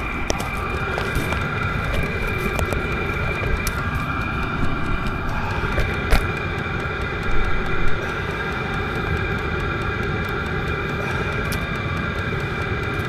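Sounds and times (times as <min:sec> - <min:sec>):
faint regular ticking: 0:00.0 - 0:13.0
heater fan and burner roar: 0:00.0 - 0:13.0
high whine: 0:00.0 - 0:13.0.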